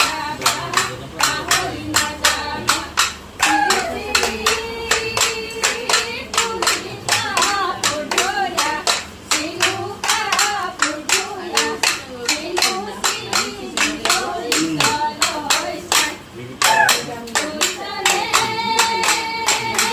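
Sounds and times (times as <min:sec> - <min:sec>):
rhythmic hand-clapping: 0:00.0 - 0:19.9
voices singing: 0:00.0 - 0:19.9.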